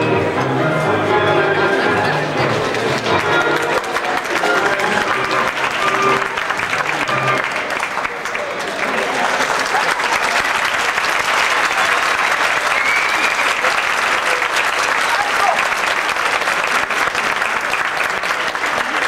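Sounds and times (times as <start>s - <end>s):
audience clapping: 1.8s - 19.0s.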